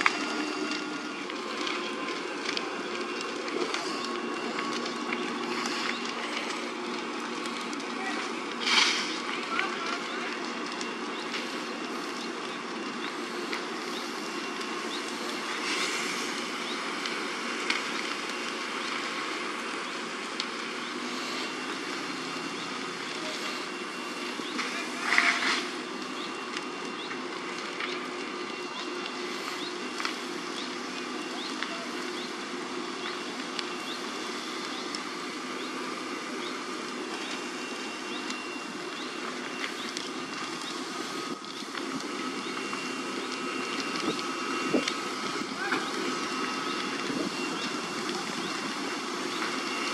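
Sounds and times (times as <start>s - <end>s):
fire crackling and popping: 0.0s - 49.9s
large fire burning: 0.0s - 49.9s.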